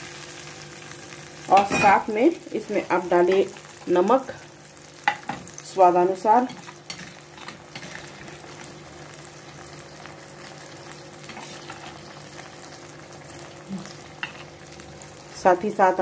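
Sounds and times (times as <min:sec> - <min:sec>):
curry sizzling and bubbling: 0:00.0 - 0:16.0.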